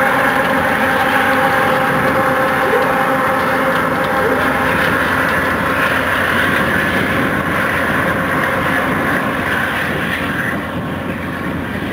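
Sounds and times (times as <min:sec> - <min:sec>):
diesel locomotive engines: 0:00.0 - 0:11.9
train wheels on rail: 0:00.0 - 0:11.9.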